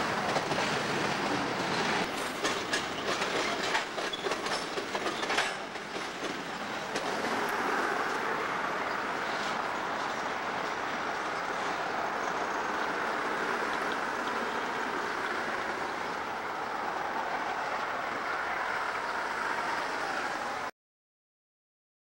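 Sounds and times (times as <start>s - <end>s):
train wheels on rails: 0.0s - 20.7s.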